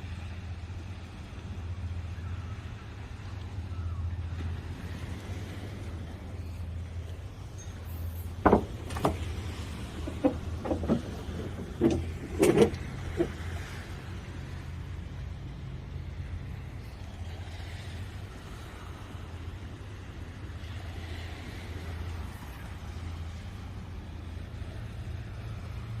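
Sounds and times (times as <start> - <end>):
vehicle engine and road rumble: 0.0 - 26.0.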